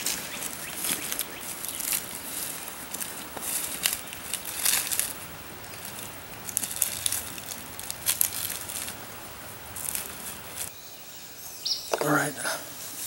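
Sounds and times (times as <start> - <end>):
footsteps in grass and leaves: 0.0 - 10.8.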